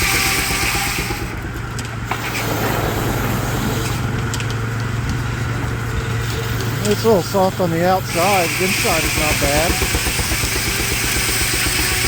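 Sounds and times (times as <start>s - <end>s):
sawmill blade drone: 0.0s - 12.0s.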